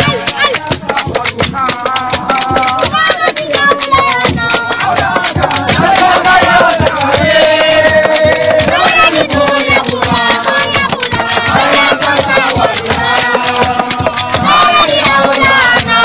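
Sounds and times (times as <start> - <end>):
fast drumming: 0.0 - 16.0
voices singing: 0.0 - 16.0.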